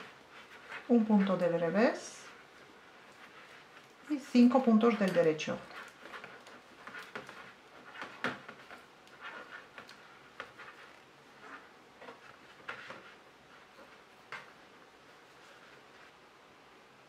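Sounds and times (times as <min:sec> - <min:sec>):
yarn rustling: 0:00.0 - 0:16.2.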